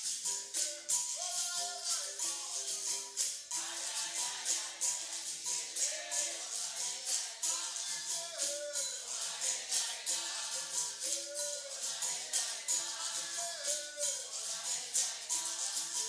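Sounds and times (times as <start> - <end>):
berimbau shakers rattling: 0.0 - 16.0
pandeiro jingles: 0.0 - 16.0
voices singing a chant: 0.0 - 16.0.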